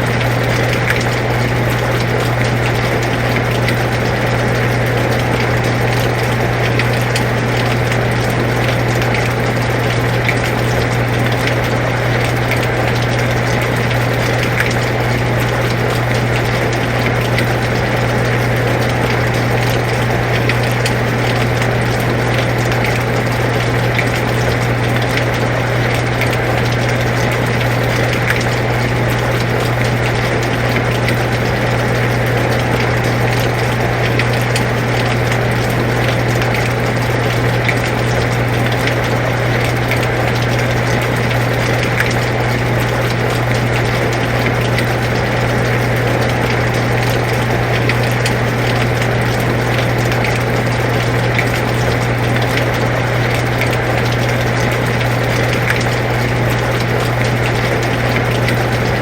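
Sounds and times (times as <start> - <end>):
air conditioner humming: 0.0 - 59.0
raindrop ticks: 0.1 - 59.0.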